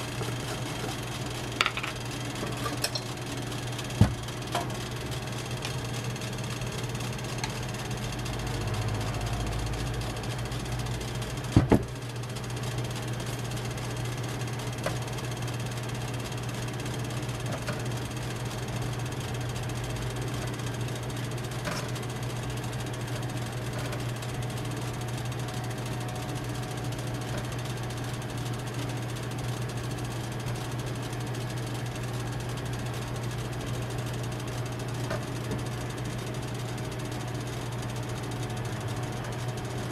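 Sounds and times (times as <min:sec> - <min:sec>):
low machine hum: 0:00.0 - 0:39.9.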